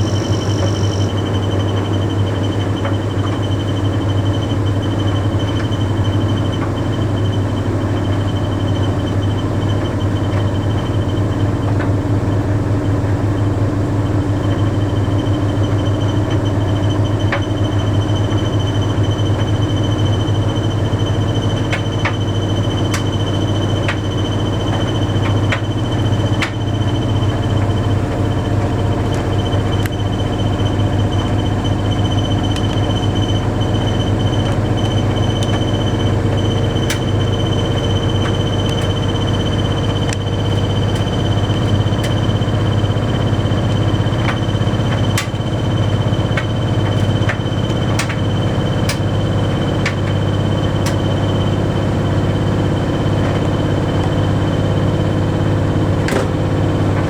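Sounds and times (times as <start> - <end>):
tumble dryer humming: 0.0 - 57.0
turning drum rumble: 0.0 - 57.0.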